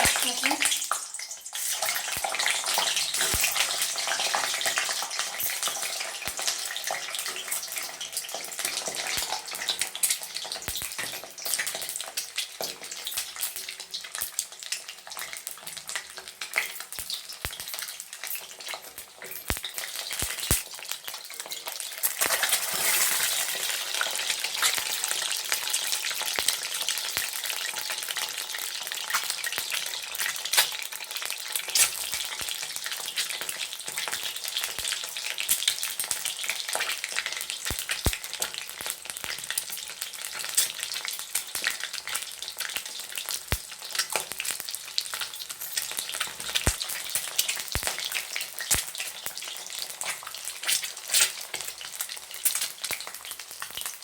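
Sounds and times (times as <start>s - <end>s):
eggs sizzling in hot oil: 0.0s - 54.0s.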